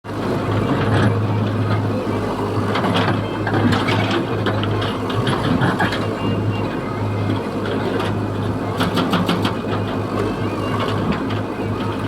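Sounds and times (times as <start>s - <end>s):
excavator diesel engine running: 0.1s - 12.0s.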